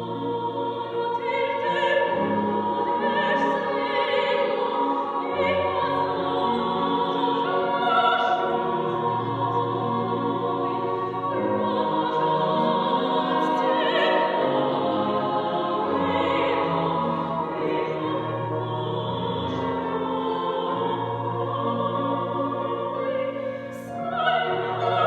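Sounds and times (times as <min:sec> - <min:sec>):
choir sustaining chords: 0:00.0 - 0:25.0.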